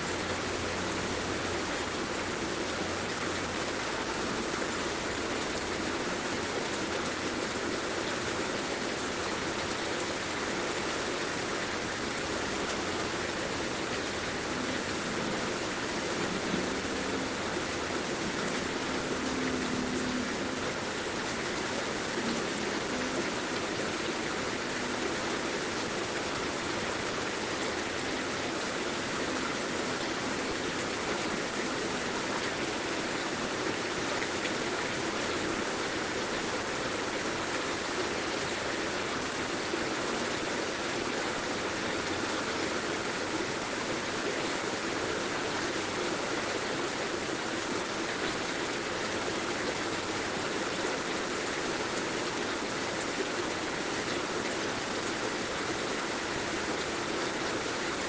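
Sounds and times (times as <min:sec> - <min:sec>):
heavy rain hiss: 0:00.0 - 0:58.0.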